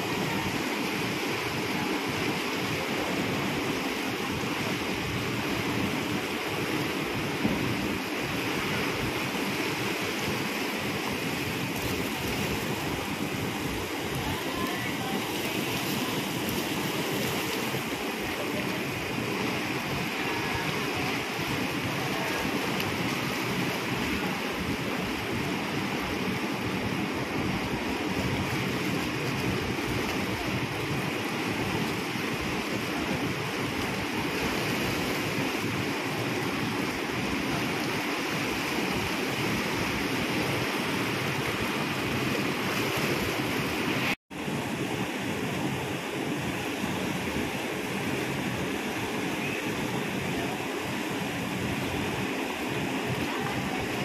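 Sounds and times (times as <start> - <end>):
propeller wash churning water: 0.0 - 54.0.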